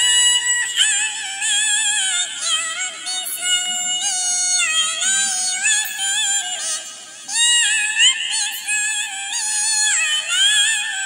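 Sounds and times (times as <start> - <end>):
synthetic cat-like voice singing: 0.0 - 11.0.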